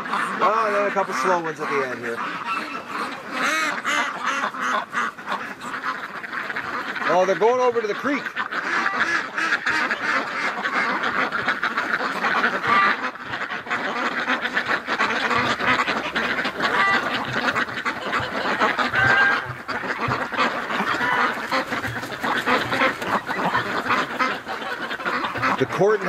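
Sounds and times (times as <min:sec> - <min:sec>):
ducks quacking: 0:00.0 - 0:26.0
geese honking: 0:00.0 - 0:26.0.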